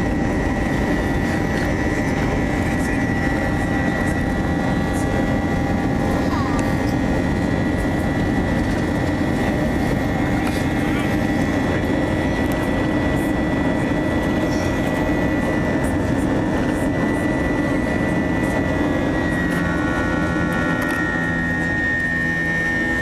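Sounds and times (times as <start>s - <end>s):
jet engines inside cabin: 0.0s - 23.0s.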